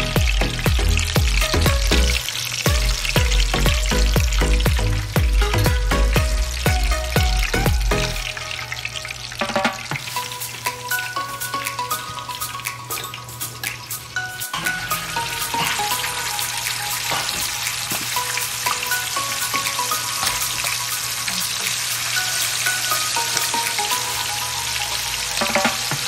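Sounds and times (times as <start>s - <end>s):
chicken frying in hot oil: 0.0s - 26.0s.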